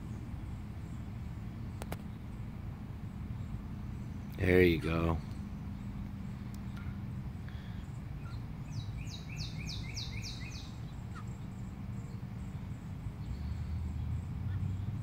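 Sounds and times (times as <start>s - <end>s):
low background rumble: 0.0s - 15.0s
songbird singing: 0.0s - 15.0s.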